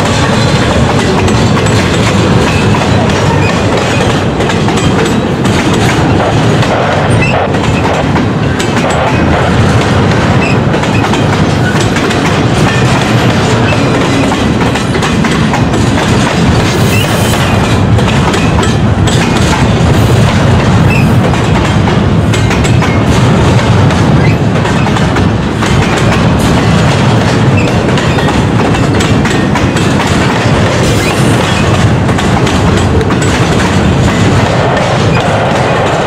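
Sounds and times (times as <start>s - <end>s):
freight train deep rumble: 0.0s - 36.0s
wheels clicking over rails: 0.0s - 36.0s.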